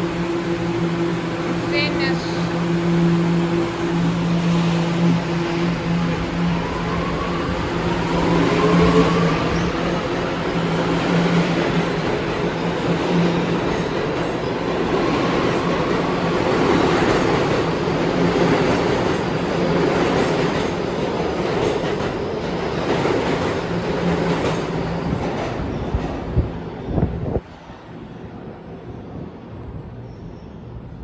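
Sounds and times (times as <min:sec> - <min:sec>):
subway train rumble: 0:00.0 - 0:31.0.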